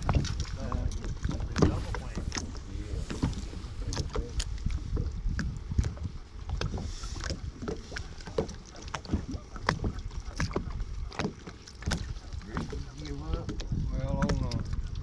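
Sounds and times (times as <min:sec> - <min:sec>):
small waves lapping against boat hull: 0:00.0 - 0:15.0
wind rumble on microphone: 0:00.0 - 0:15.0.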